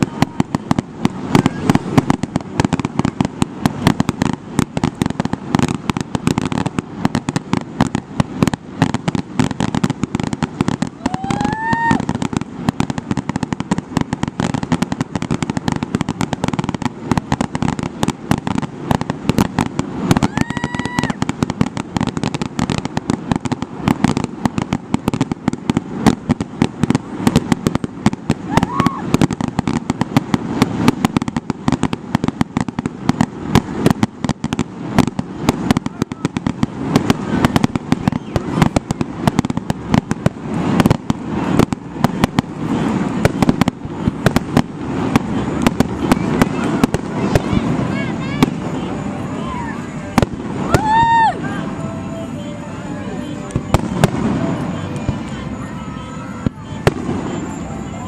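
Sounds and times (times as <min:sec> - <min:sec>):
fireworks bangs and crackles: 0:00.0 - 0:58.0
rising firework whistles: 0:00.0 - 0:58.0.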